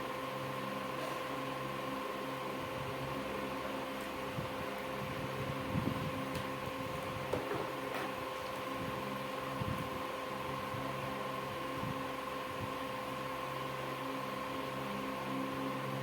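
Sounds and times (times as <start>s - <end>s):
machine hum with whine: 0.0s - 16.0s.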